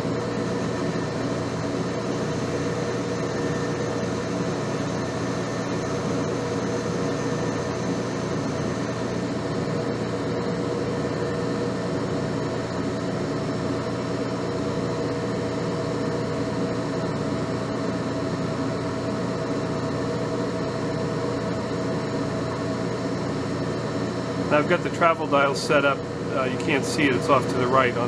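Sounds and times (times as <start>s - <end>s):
metal lathe humming: 0.0s - 28.0s.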